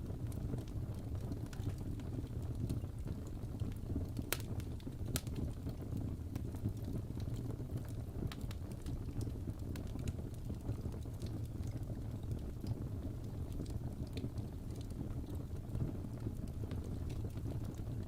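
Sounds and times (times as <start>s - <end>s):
fire rumbling: 0.0s - 18.0s
logs crackling and popping: 0.0s - 18.0s.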